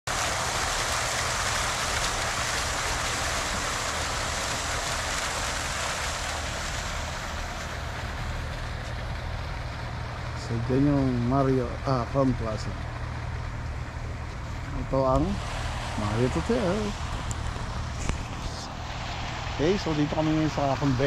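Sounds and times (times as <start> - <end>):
fountain jets splashing: 0.1 - 21.0.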